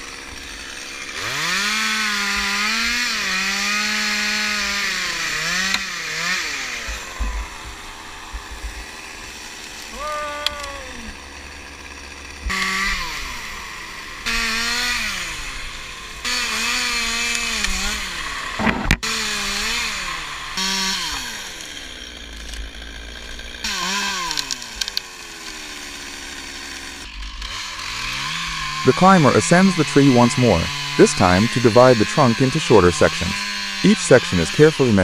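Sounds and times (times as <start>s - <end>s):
chainsaw revving: 0.0s - 35.0s.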